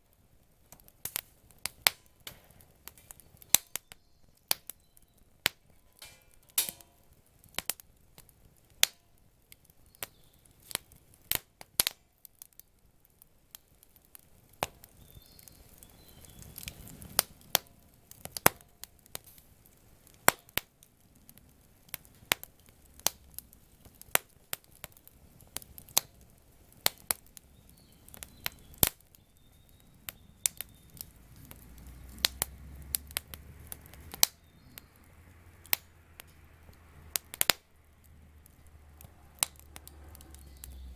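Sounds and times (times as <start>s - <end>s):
campfire crackling: 0.0s - 40.9s
sharp pops and snaps: 0.0s - 40.9s.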